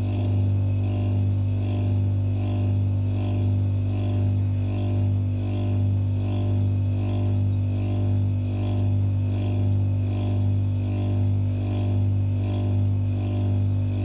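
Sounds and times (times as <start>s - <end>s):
refrigerator compressor humming: 0.0s - 14.0s.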